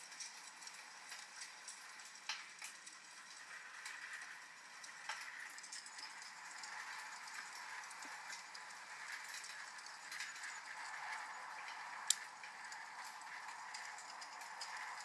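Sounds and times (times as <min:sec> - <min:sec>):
wood fire crackling: 0:00.2 - 0:15.0
steady rain: 0:00.5 - 0:15.0.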